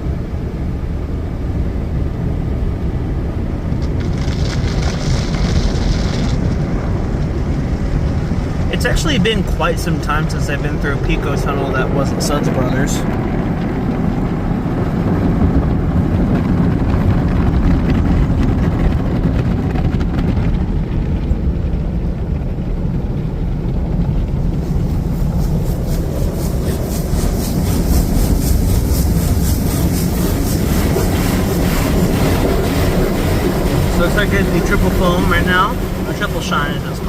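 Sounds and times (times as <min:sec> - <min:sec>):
car wash equipment rumbling: 0:00.0 - 0:37.0.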